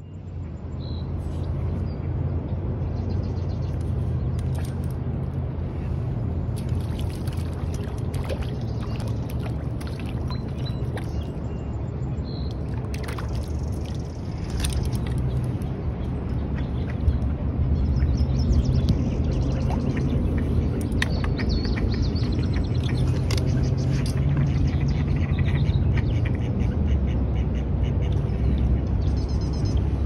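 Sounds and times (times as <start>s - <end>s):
low outdoor rumble: 0.0s - 30.0s.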